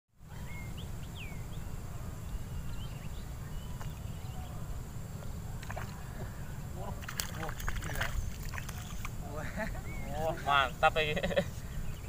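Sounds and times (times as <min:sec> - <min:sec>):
birds chirping: 0:00.2 - 0:12.0
low riverside rumble: 0:00.2 - 0:12.0.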